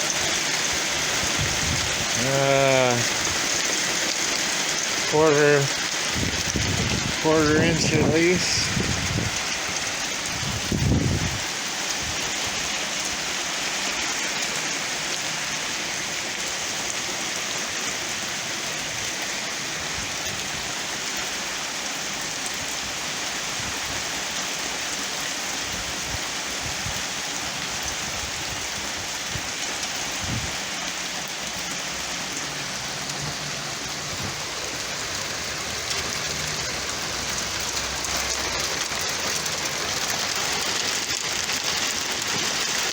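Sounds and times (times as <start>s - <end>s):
hail falling hiss: 0.0s - 42.9s.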